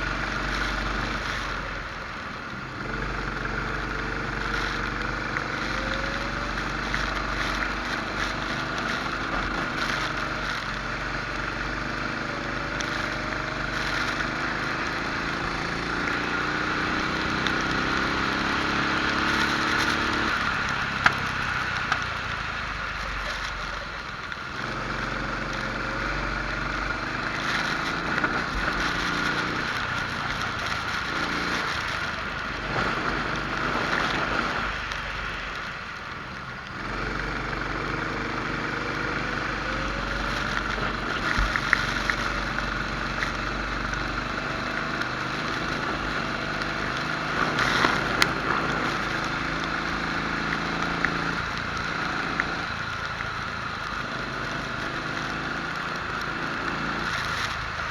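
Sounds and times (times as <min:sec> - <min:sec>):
kart engine accelerating: 0:00.0 - 0:57.9.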